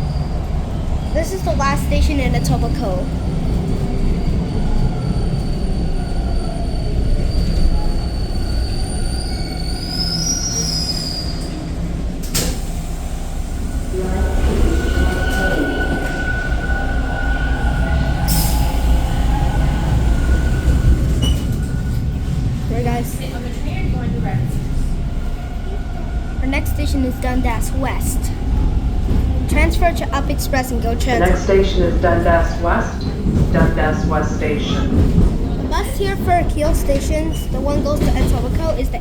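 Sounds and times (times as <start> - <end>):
subway train rumble: 0.0 - 39.0.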